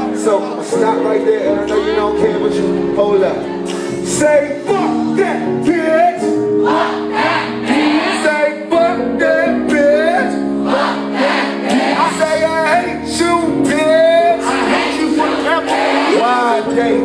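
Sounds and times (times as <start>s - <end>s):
held keyboard chords: 0.0s - 17.0s.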